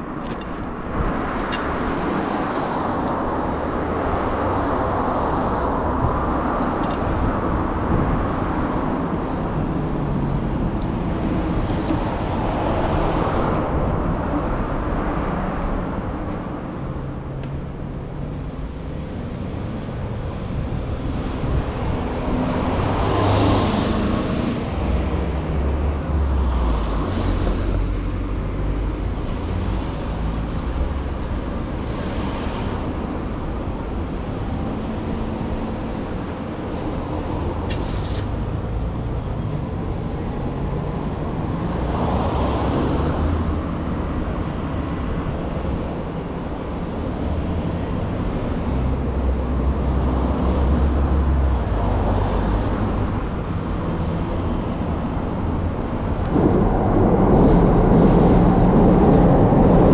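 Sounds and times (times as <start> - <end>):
cars passing: 0.0 - 15.8, 16.4 - 59.9.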